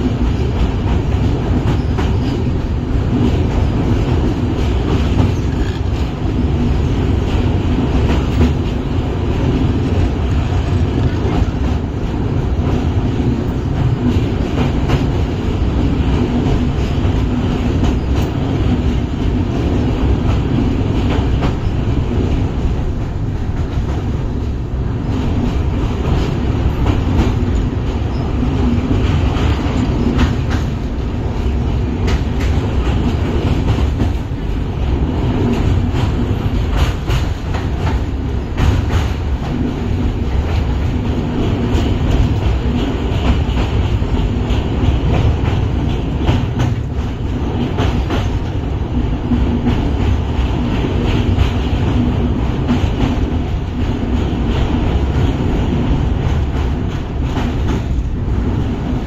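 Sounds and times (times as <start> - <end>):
sharp clicks from rail joints: 0.0 - 24.2, 25.1 - 34.6, 35.2 - 59.0
train wheels rumbling over bridge: 0.0 - 59.0.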